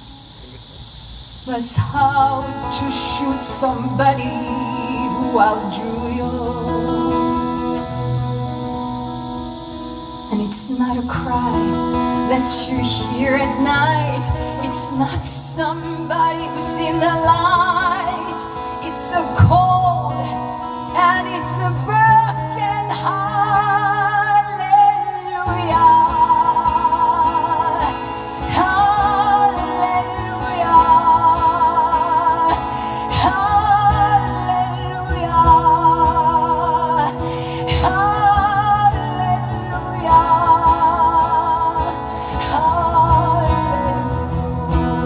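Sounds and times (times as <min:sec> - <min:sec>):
guitar accompaniment: 0:00.0 - 0:45.0
woman singing with vibrato: 0:01.3 - 0:45.0.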